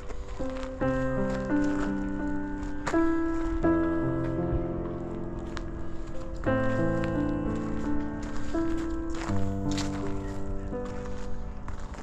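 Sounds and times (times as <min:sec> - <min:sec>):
music of held layered chords: 0:00.0 - 0:12.0.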